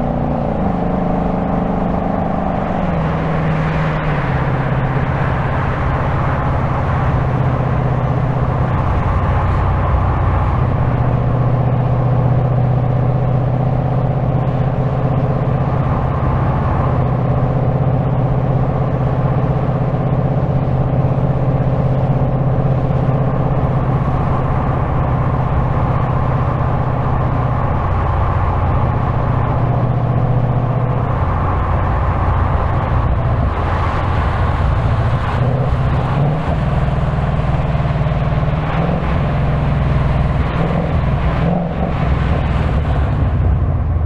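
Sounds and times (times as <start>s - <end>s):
car engine running: 0.0s - 44.0s
wind noise: 0.0s - 44.0s.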